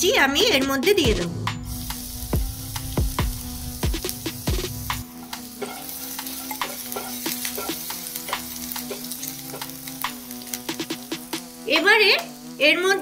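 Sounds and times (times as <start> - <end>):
ginger and garlic sizzling in oil: 1.6 - 13.0.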